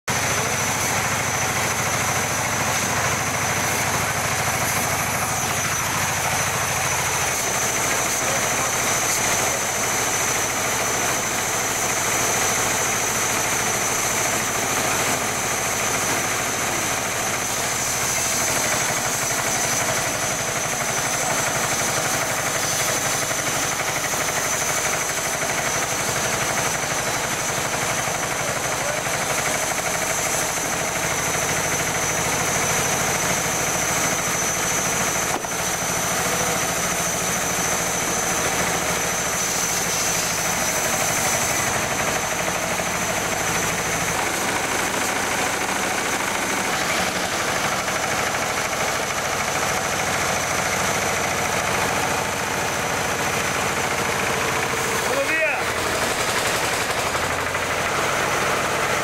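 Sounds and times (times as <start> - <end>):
band saw cutting logs: 0.1 - 59.0
tractor engine running steadily: 0.1 - 59.0.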